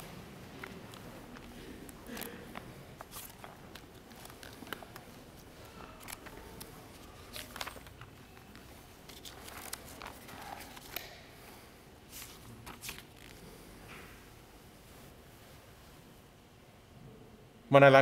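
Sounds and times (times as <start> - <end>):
altar items being handled: 0.0 - 16.2.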